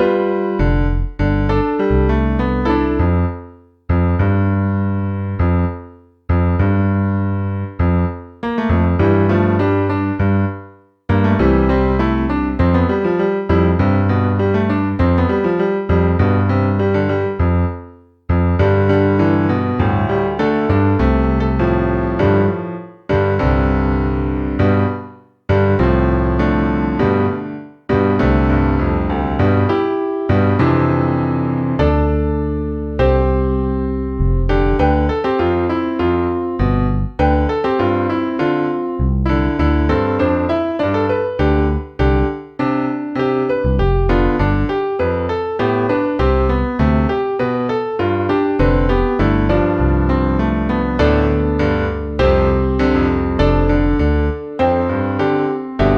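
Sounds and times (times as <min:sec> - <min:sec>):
electric piano chords: 0:00.0 - 0:55.9.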